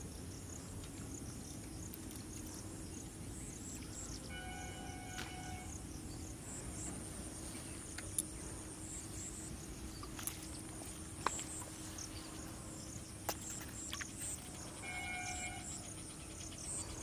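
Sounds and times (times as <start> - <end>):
faint low hum: 0.0 - 17.0
insects chirring: 0.0 - 17.0.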